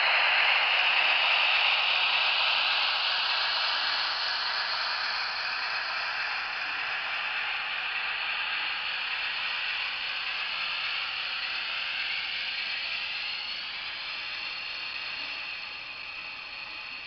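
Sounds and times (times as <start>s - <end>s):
model train motor whirring: 0.0s - 17.0s.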